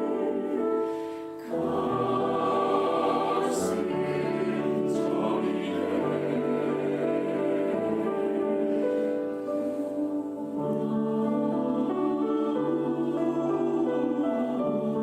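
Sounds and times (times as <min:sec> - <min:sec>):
mixed choir singing chords: 0:00.0 - 0:15.0.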